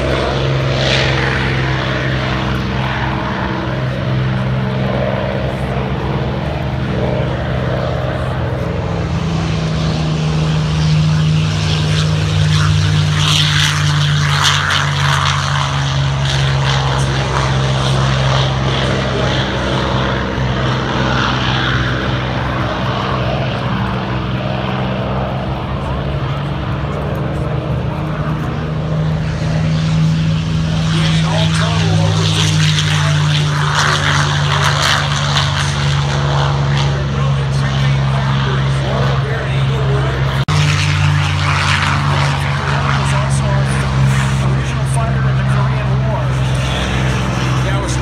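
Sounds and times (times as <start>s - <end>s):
propeller aircraft droning: 0.0s - 48.0s.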